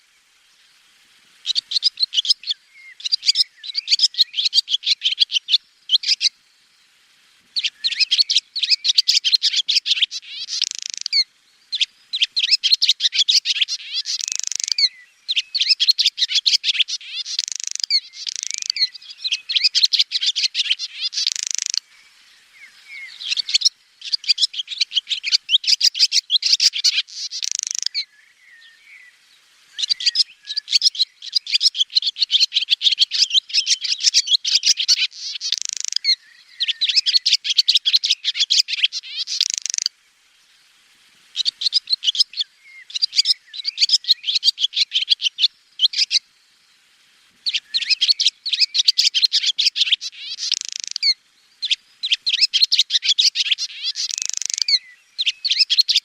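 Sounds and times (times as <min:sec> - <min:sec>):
swallow twittering: 0:01.4 - 0:06.3, 0:07.6 - 0:39.9, 0:41.3 - 0:46.2, 0:47.4 - 0:56.0.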